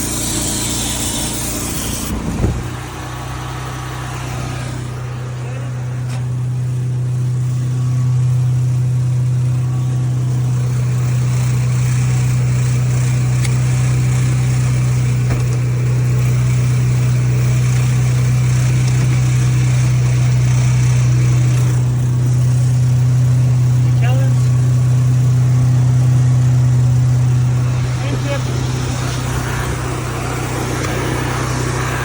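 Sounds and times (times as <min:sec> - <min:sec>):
water spraying: 0:00.0 - 0:06.1, 0:10.3 - 0:32.0
pressure washer running: 0:00.0 - 0:32.0.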